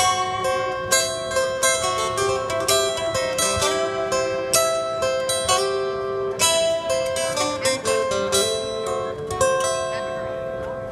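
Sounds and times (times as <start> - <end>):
plucked string instrument notes: 0.0 - 10.9.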